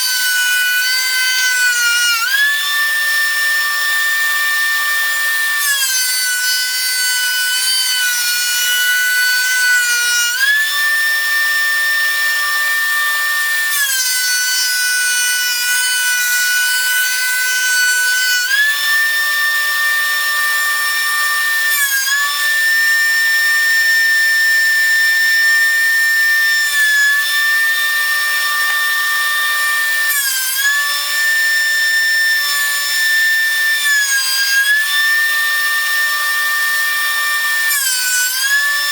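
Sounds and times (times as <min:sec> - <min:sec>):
thickness planer motor whine: 0:00.0 - 0:38.9.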